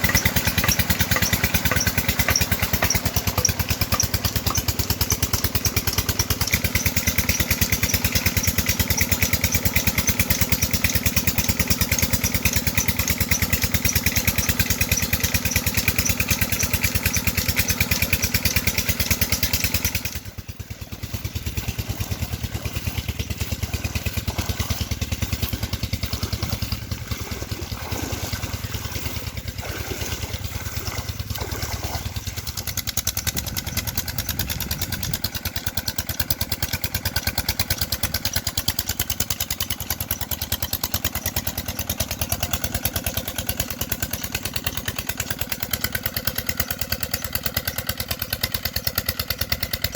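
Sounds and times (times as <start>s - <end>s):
diesel engine knocking: 0.0s - 49.9s.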